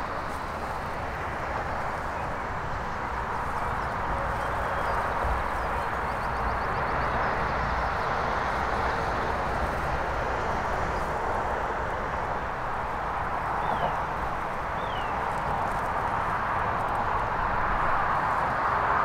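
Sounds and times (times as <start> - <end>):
outdoor background rush: 0.0 - 19.0.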